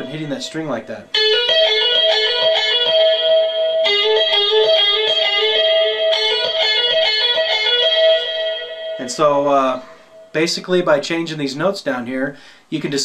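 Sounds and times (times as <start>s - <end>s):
guitar tapping ringing notes: 0.0s - 10.8s.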